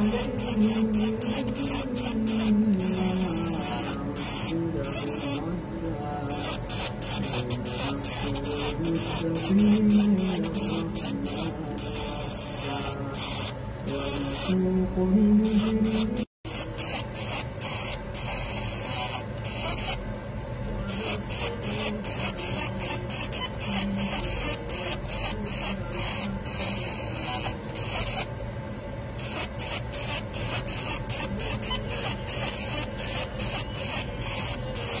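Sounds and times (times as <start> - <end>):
laser marking machine hissing: 0.0 - 14.7, 15.3 - 20.2, 20.8 - 28.4, 29.1 - 35.0.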